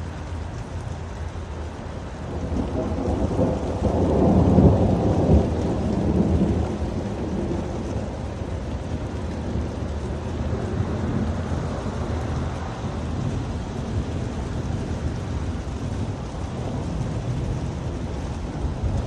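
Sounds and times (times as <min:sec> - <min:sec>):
steady rain: 0:00.0 - 0:19.0
thunder rumbling: 0:02.2 - 0:19.0.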